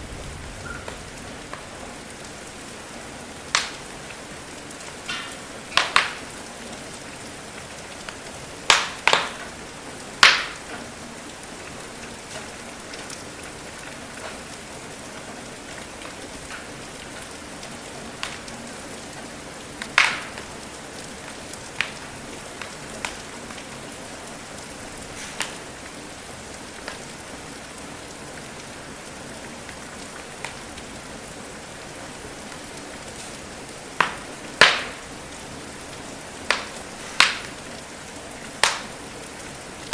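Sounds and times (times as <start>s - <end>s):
steady rain: 0.0s - 39.9s
wood fire popping and crackling: 0.0s - 39.9s.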